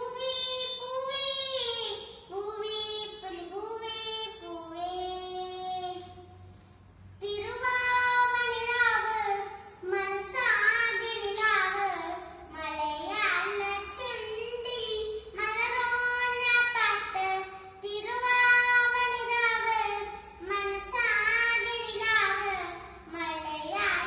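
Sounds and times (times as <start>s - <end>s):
girl singing unaccompanied: 0.0s - 6.5s, 7.1s - 24.0s.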